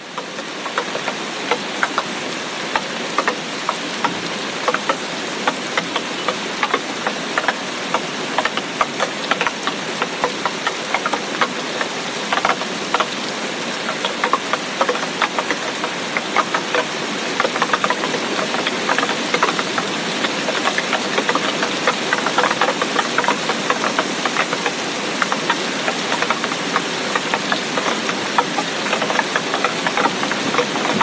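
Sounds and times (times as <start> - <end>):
heavy rain hissing: 0.0 - 31.0
raindrops ticking: 0.0 - 31.0.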